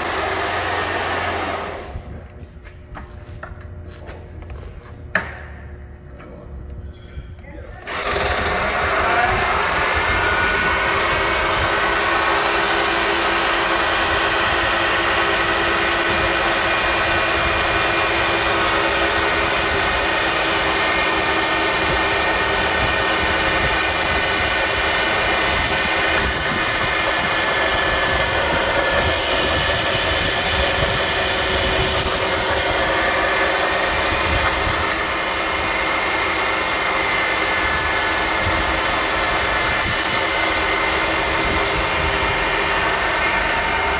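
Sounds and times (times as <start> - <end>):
milling machine spindle hum: 0.0 - 2.0, 7.8 - 43.9.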